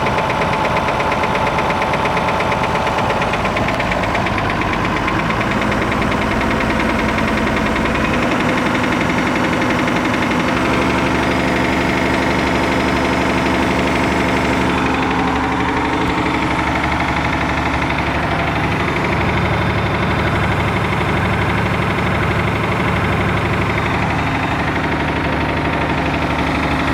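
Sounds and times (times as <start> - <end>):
diesel engine knocking: 0.0 - 26.9.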